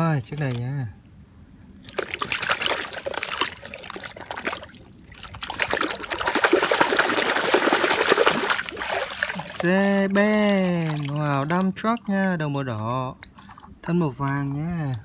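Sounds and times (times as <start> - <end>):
water splashing in a plastic tub: 0.0 - 0.8, 1.8 - 15.0.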